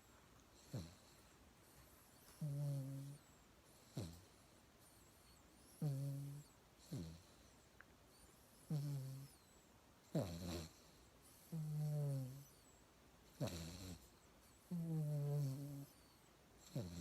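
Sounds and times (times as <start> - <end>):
dog snoring: 0.5 - 17.0.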